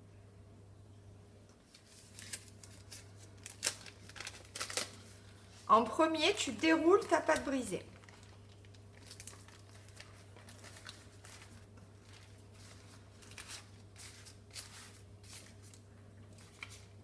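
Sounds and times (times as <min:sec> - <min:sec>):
low steady hum: 0:00.0 - 0:17.0
baking paper rustling and crinkling: 0:01.6 - 0:17.0.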